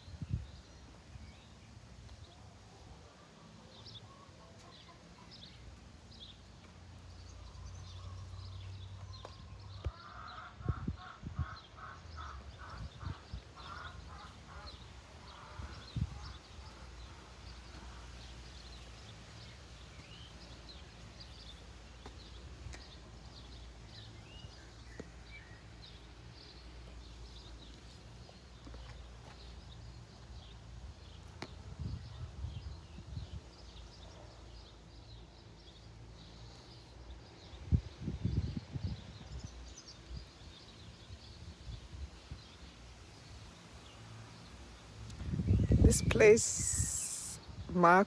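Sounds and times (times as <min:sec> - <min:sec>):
low rumble of wind: 0:00.0 - 0:03.2, 0:05.4 - 0:48.0
small birds chirping: 0:00.0 - 0:10.2, 0:11.0 - 0:48.0.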